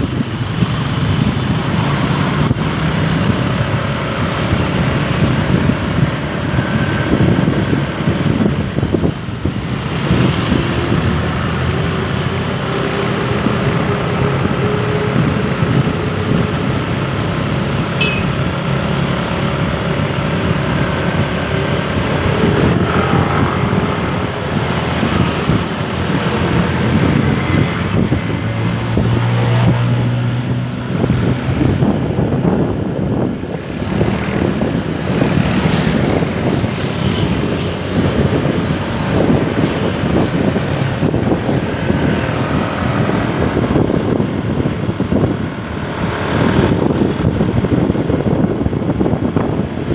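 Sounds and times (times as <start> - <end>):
road traffic: 0.0 - 49.9.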